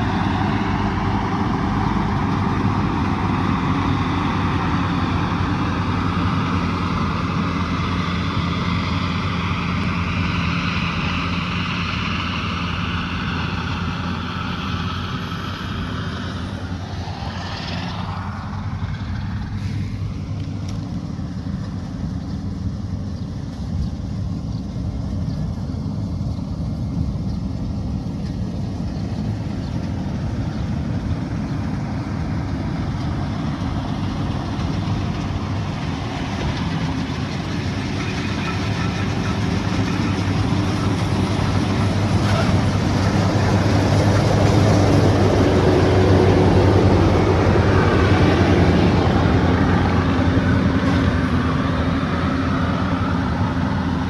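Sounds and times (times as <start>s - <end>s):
combine harvester engine droning: 0.0s - 54.0s.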